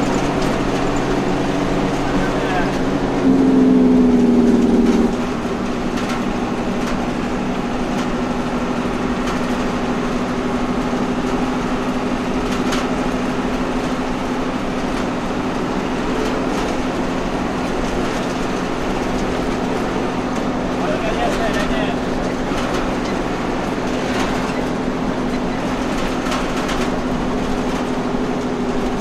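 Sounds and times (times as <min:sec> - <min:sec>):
bus engine running: 0:00.0 - 0:29.0
road noise: 0:00.0 - 0:29.0.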